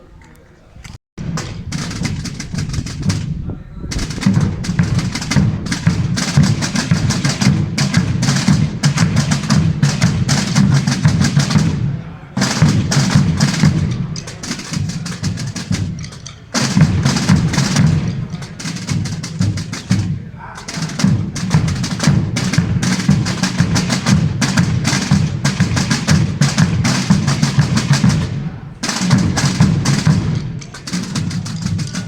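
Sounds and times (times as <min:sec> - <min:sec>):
snare and bass drums rolling: 0:01.2 - 0:32.0.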